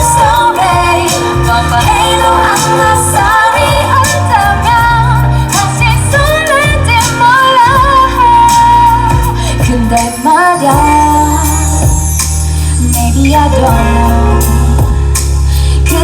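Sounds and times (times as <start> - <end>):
pop accompaniment: 0.0 - 16.0
woman singing pop song: 0.0 - 16.0.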